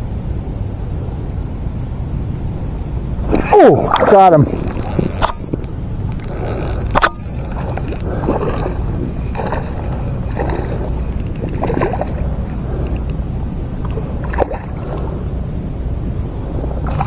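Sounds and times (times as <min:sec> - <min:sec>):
low rumble: 0:00.0 - 0:17.0
fish splashing in water: 0:03.2 - 0:17.0.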